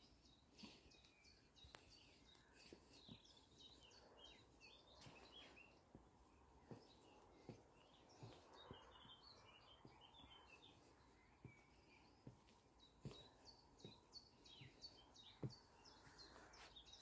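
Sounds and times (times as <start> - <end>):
songbirds chirping: 0.0 - 17.0
footsteps on wooden boardwalk: 2.6 - 17.0.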